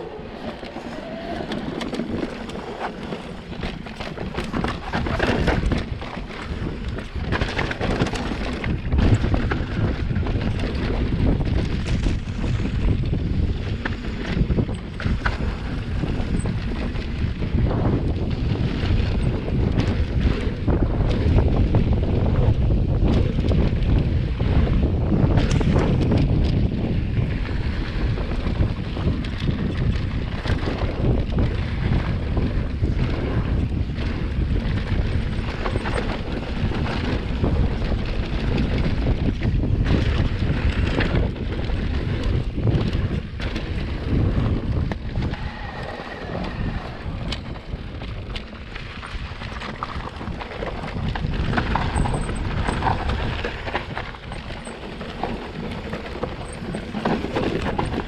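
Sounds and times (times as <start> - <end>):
wind buffeting microphone: 0.0 - 58.0
bike knocks and rattles: 0.4 - 45.4, 47.2 - 58.0.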